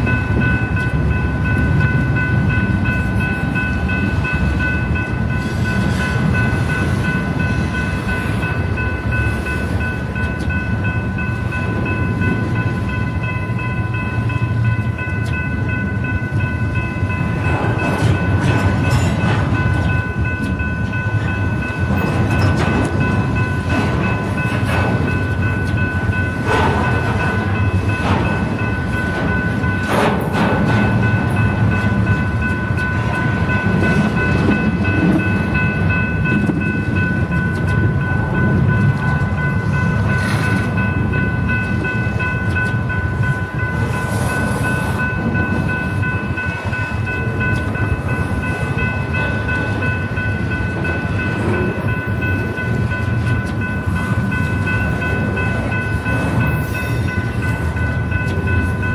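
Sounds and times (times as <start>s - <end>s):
high-pitched tones ringing: 0.0s - 58.9s
train cars rolling past: 0.0s - 58.9s.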